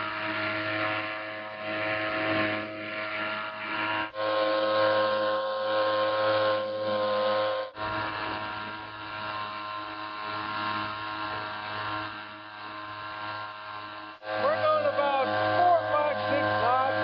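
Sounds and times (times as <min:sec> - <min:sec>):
small outboard motor running: 0:00.0 - 0:17.0.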